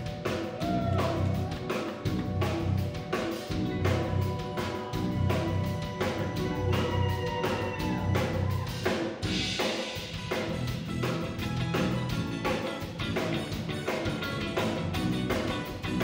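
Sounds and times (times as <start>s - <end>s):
drum kit beat: 0.0s - 16.0s
live rock band playing: 0.0s - 16.0s.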